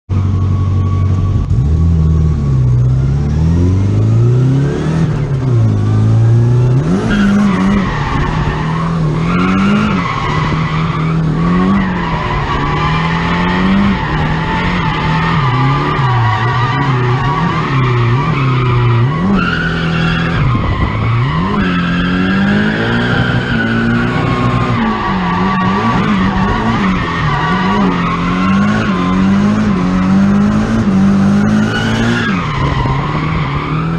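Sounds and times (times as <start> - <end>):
car engine revving hard: 1.5 - 33.9.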